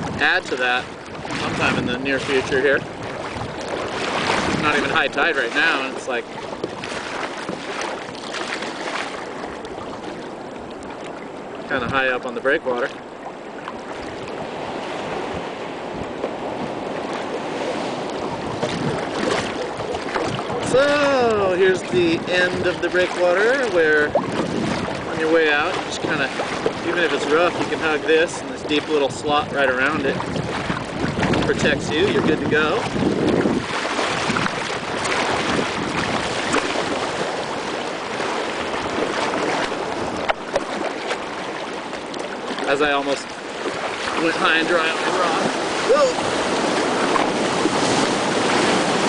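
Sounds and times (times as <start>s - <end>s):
ocean surf against rocks: 0.0s - 49.0s
sea water splashing around kayak: 0.0s - 49.0s
wind buffeting microphone: 0.0s - 49.0s.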